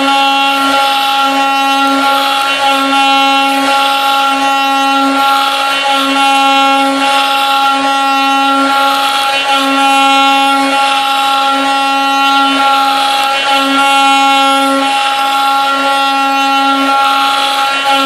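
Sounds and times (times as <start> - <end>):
cutter rasping in wood: 0.0 - 18.0
router spindle whine: 0.0 - 18.0.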